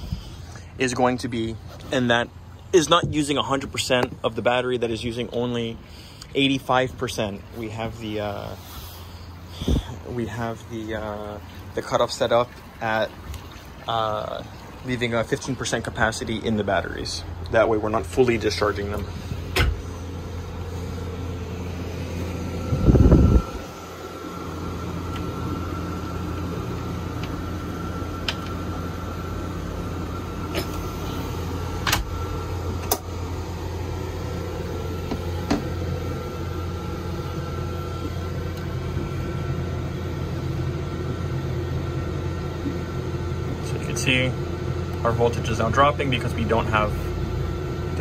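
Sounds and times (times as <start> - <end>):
air conditioner humming: 0.0 - 48.0
faint whine: 0.0 - 48.0.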